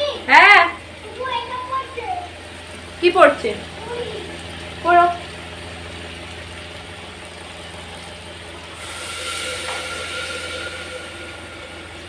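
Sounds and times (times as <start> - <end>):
steady low hum: 0.0 - 12.0
water hissing in hot pan: 0.0 - 12.0.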